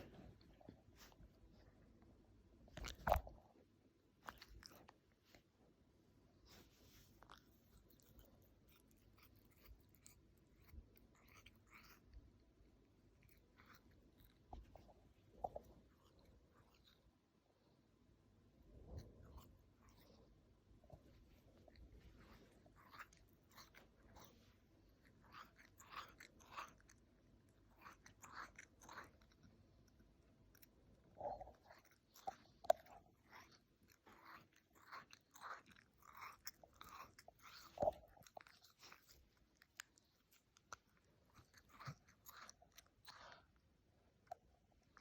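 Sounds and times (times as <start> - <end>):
cat chewing: 2.7 - 3.4, 4.2 - 5.5, 6.4 - 17.8, 18.5 - 45.0.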